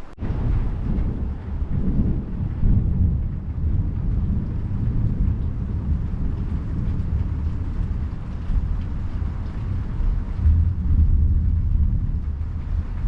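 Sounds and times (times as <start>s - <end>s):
steady rain: 0.0s - 13.0s
rolling thunder: 0.1s - 13.0s.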